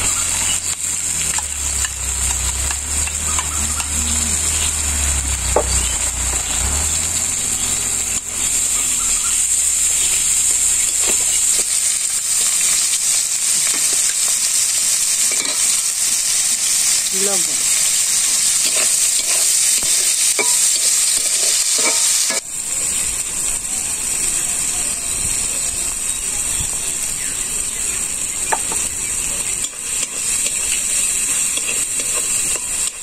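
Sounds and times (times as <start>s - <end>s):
food sizzling in hot oil: 0.0s - 33.0s.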